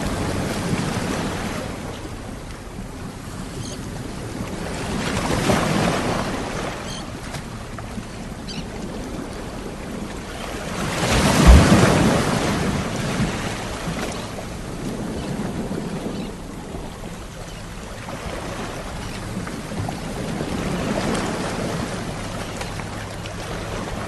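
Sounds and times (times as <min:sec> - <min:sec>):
sea waves washing onto shore: 0:00.0 - 0:24.0.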